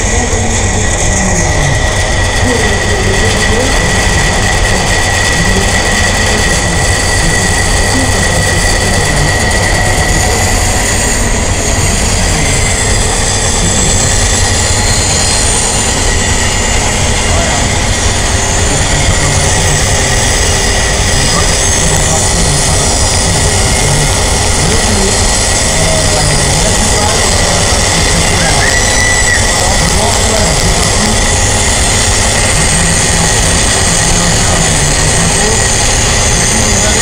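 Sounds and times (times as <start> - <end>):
sawmill machinery clatter and rumble: 0.0 - 37.0
thin steady whine: 0.0 - 37.0.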